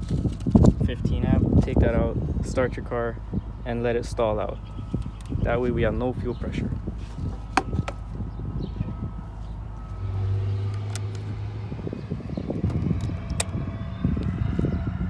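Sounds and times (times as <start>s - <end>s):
low handling rumble: 0.0s - 15.0s.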